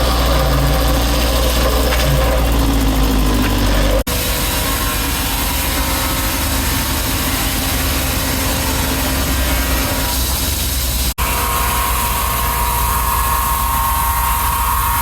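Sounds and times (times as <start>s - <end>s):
sawmill machinery drone: 0.0s - 15.0s.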